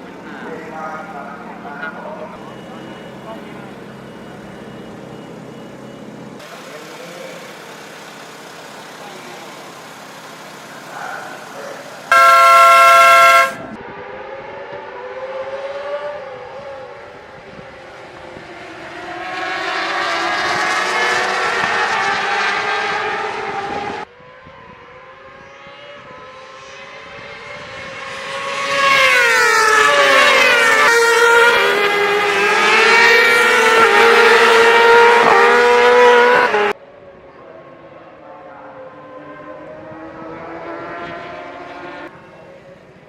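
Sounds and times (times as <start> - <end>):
racing motorcycle engines: 0.0 - 43.0.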